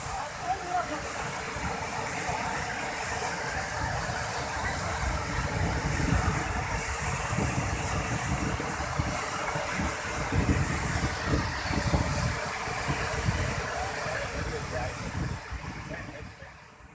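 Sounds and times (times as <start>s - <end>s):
water rushing down a spillway: 0.0s - 16.9s.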